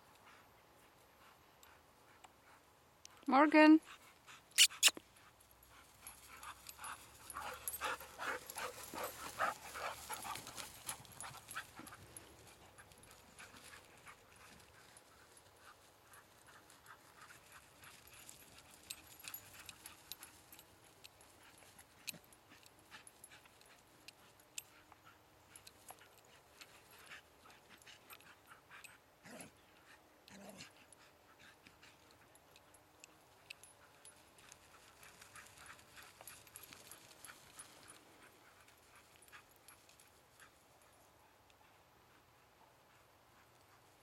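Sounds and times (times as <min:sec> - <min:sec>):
dog panting: 0:00.1 - 0:20.6, 0:21.2 - 0:44.0.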